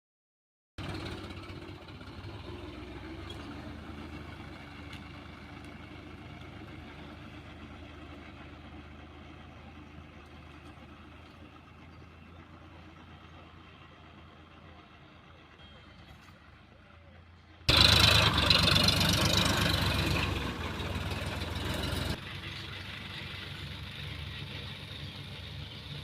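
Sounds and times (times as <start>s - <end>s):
tractor engine running: 0.8s - 26.0s.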